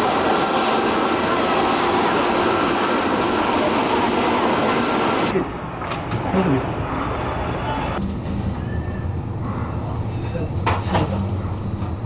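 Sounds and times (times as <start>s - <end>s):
jet engines running with whine: 0.0s - 12.0s.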